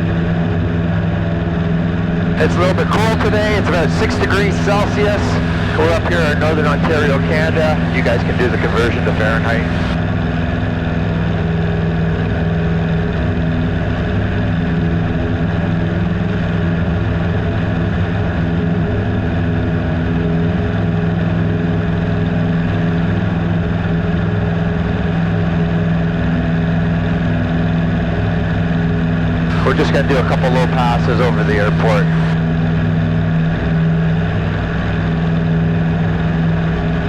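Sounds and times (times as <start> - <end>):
airplane engine and propeller droning: 0.0 - 37.0.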